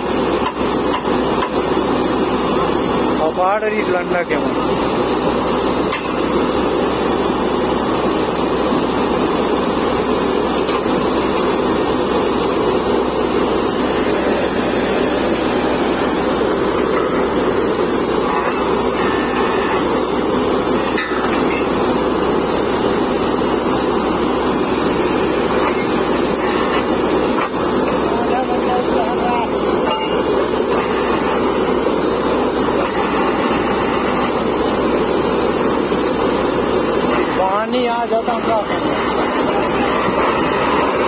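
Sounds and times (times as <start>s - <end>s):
compressor hiss: 0.0s - 41.0s
drilling rig engine droning: 0.0s - 41.0s.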